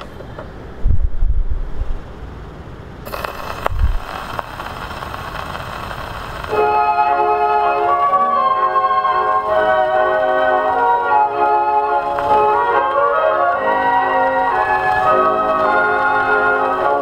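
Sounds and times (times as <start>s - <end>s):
record surface hiss and crackle: 0.0s - 17.0s
gramophone music sustained notes: 3.1s - 17.0s.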